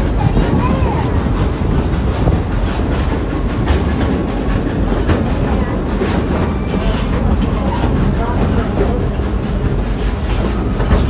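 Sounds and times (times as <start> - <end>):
train rumbling on track: 0.0 - 11.0
wheels clattering: 0.0 - 11.0.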